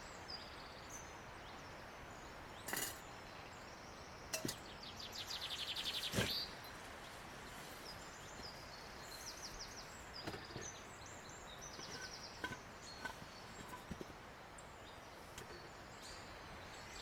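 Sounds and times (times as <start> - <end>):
small birds chirping: 0.0 - 17.0
steady outdoor hiss: 0.0 - 17.0.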